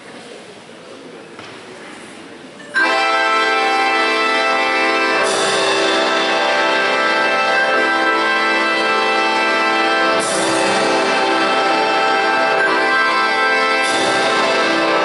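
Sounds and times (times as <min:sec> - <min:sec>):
folk orchestra holding chords: 0:02.8 - 0:15.0.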